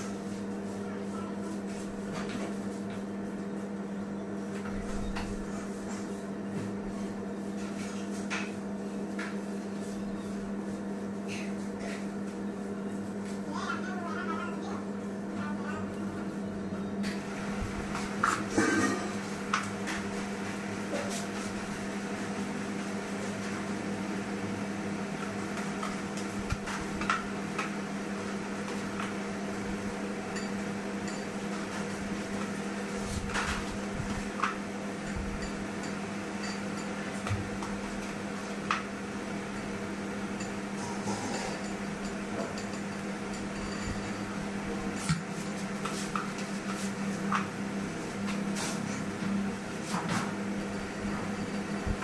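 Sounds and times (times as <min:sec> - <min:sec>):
low mechanical hum: 0:00.0 - 0:52.0.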